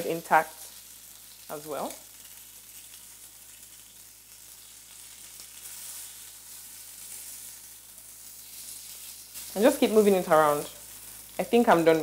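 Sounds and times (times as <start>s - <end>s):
prawns sizzling in a frying pan: 0.0s - 12.0s.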